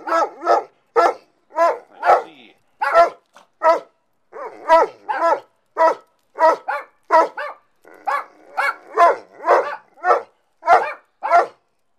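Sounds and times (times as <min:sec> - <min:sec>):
dog barking: 0:00.0 - 0:11.6.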